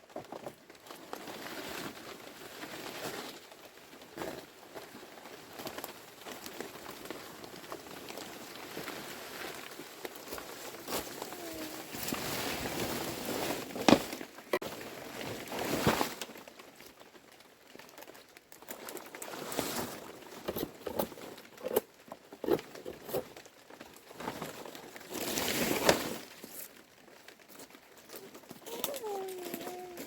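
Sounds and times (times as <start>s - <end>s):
rustling noise: 0.1s - 30.0s.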